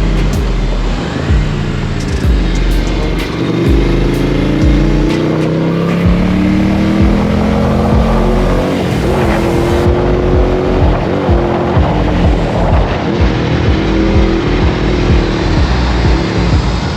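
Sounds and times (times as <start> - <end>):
motorcycle engine accelerating: 0.0 - 16.9
music with thudding beat: 0.0 - 16.9.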